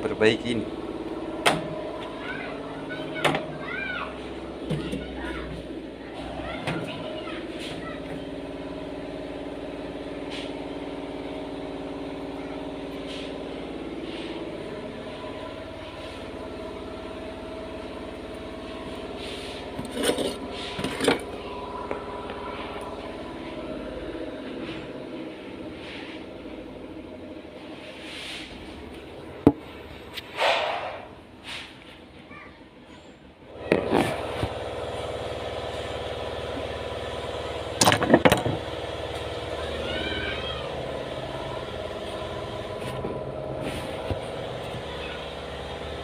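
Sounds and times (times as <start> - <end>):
mechanical hum: 0.0 - 31.9, 32.9 - 46.0.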